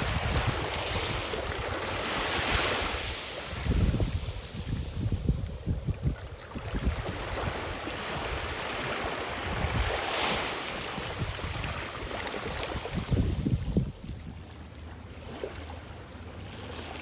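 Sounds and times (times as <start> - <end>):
wind rumble on microphone: 0.0 - 14.6
ocean waves washing ashore: 0.0 - 17.0.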